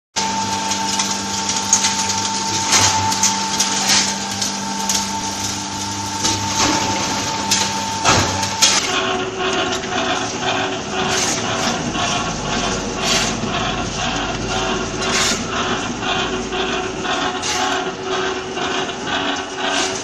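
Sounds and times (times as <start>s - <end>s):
electric motor whine and hum: 0.2s - 20.0s.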